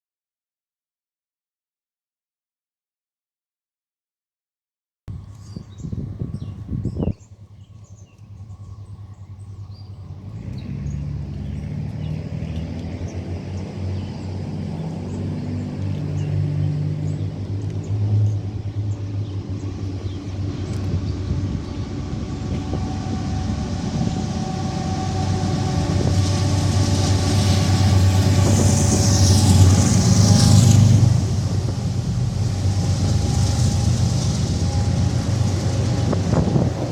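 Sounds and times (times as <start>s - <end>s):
diesel locomotive rumble: 5.1s - 36.9s.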